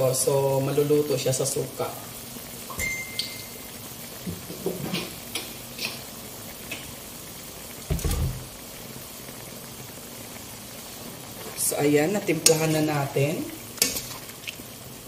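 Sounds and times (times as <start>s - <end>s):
chicken sizzling in a wok: 0.0s - 15.0s.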